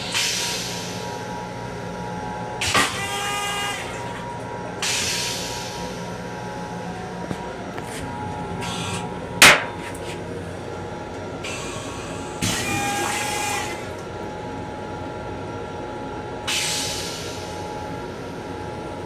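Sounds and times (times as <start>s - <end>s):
train running noise: 0.0s - 19.0s.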